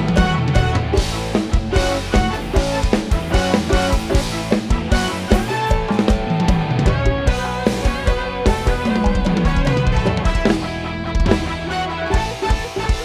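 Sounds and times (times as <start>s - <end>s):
drum kit beat: 0.0s - 13.0s
live band playing instrumental: 0.0s - 13.0s.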